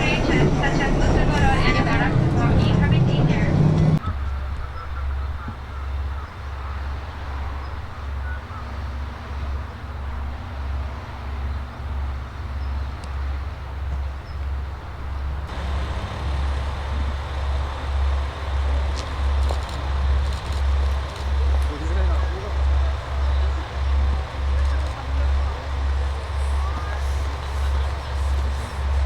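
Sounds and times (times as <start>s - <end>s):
low rumble of railcar: 0.0s - 29.0s.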